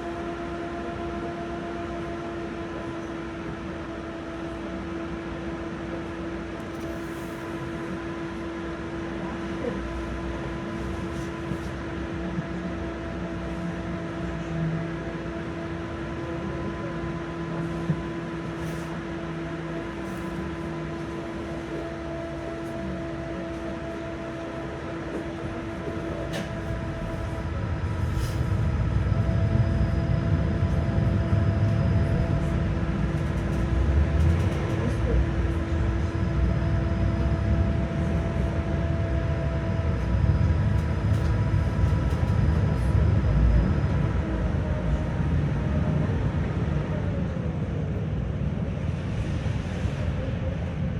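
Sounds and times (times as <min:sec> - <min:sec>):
tram electrical hum: 0:00.0 - 0:50.9.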